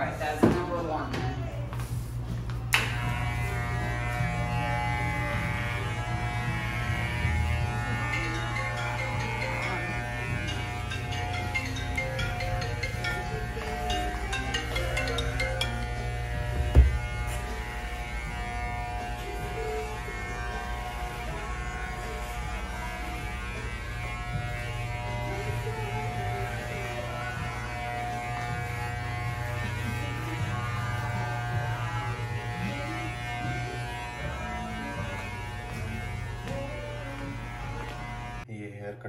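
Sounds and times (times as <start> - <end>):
electric hair clippers buzzing: 2.4 - 38.5.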